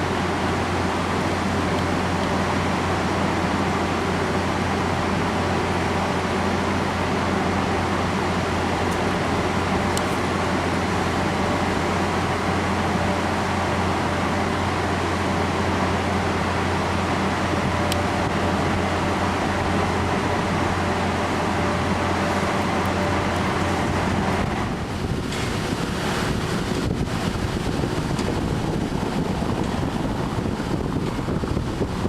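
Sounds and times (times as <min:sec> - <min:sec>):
vehicle hum: 0:00.0 - 0:32.0
wind buffeting microphone: 0:00.0 - 0:32.0.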